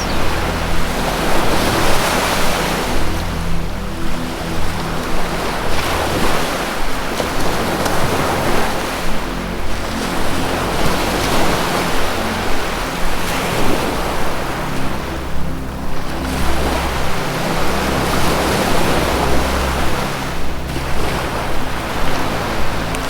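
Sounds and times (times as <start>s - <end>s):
low held music tone: 0.0s - 23.0s
ocean surf breaking: 0.0s - 23.0s.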